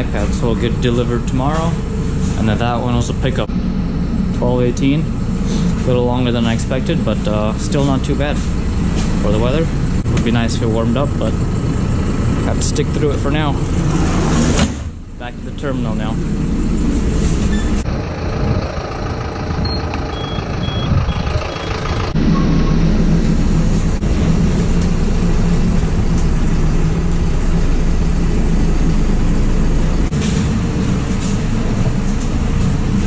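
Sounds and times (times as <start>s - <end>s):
road noise: 0.0s - 33.0s
van engine running: 0.0s - 33.0s.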